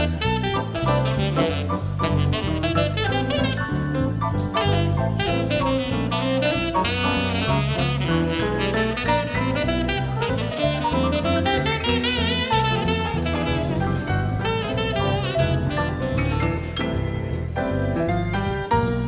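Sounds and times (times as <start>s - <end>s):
saxophone melody: 0.0s - 17.4s
light drums: 0.0s - 18.1s
bass: 0.0s - 19.0s.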